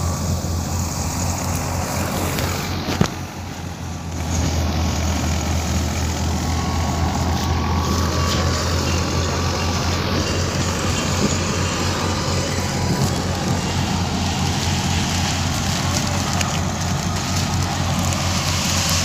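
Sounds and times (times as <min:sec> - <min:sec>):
harvester engine droning: 0:00.0 - 0:19.0.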